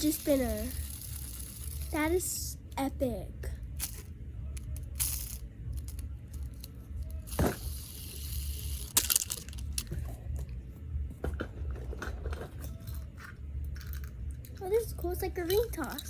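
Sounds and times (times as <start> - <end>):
plastic toys clicking and clattering: 0.0 - 2.1, 3.8 - 10.0, 11.3 - 16.0.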